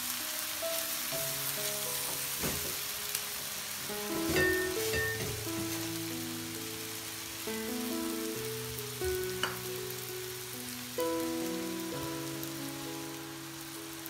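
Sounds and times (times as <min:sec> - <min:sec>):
background music: 0:00.0 - 0:14.0
food sizzling in wok: 0:00.0 - 0:14.0.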